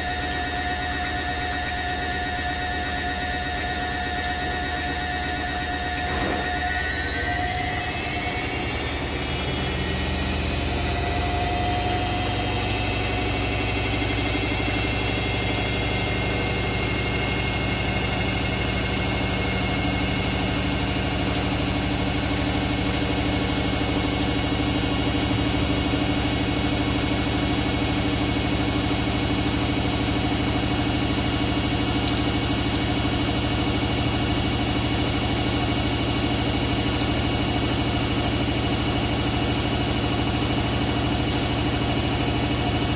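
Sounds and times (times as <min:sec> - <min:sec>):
washing machine drum spinning: 0:00.0 - 0:42.9.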